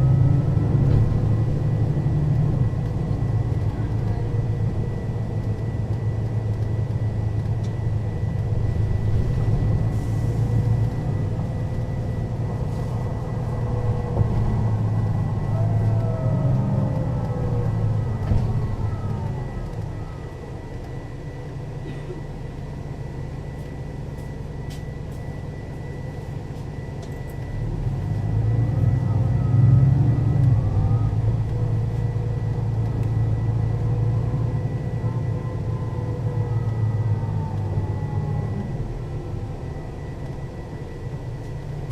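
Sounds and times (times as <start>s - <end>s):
bus engine running: 0.0s - 41.9s
gearbox whine: 0.0s - 41.9s.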